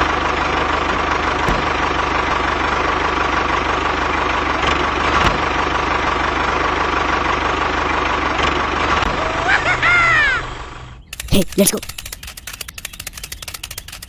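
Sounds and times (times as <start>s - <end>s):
engine whine: 0.0s - 14.0s
tractor engine chugging: 0.0s - 14.0s.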